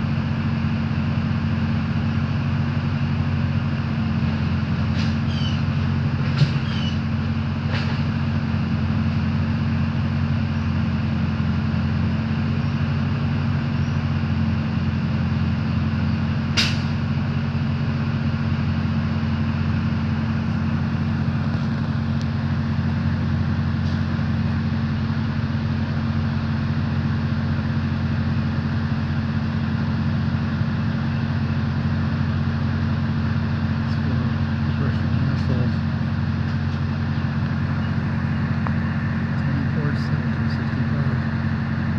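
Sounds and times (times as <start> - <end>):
truck diesel engine idling: 0.0 - 41.9.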